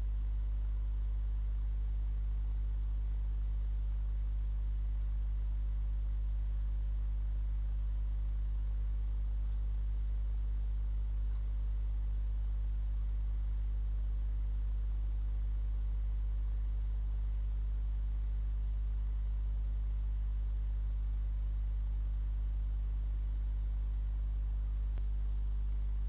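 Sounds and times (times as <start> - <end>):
faint hiss: 0.0 - 26.0
low electrical hum: 0.0 - 26.0.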